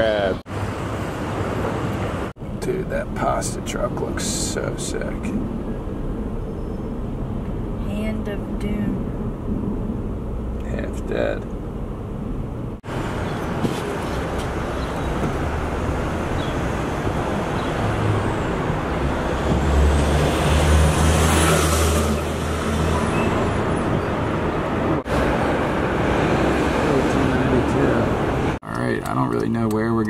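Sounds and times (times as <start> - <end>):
heavy vehicle rumble: 0.0 - 29.7
city road traffic: 0.0 - 30.0.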